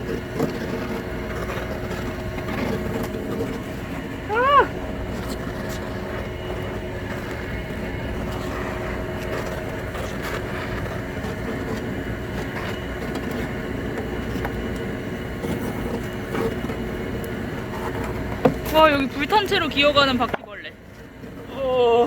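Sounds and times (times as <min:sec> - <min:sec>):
torch flame hissing: 0:00.0 - 0:19.9.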